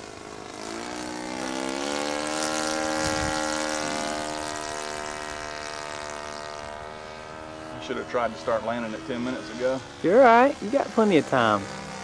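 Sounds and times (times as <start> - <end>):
model airplane engine in flight: 0.0 - 12.0.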